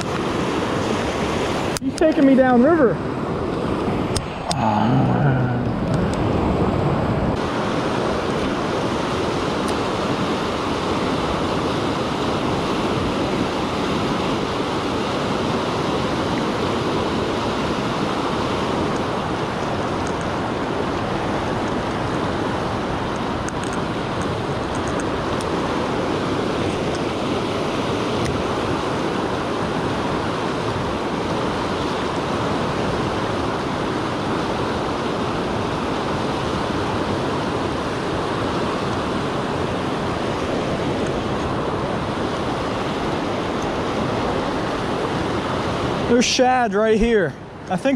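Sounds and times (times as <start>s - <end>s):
river rapids rushing over rocks: 7.4s - 47.9s.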